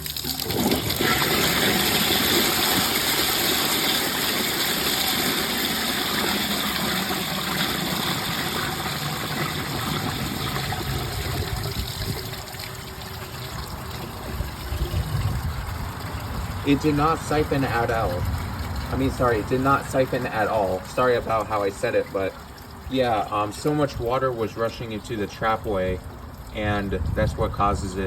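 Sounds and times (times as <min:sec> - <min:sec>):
toilet flushing: 0:00.0 - 0:28.0.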